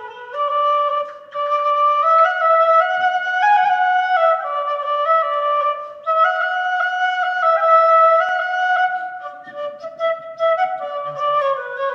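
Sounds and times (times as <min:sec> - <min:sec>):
solo wind instrument melody: 0:00.0 - 0:11.9.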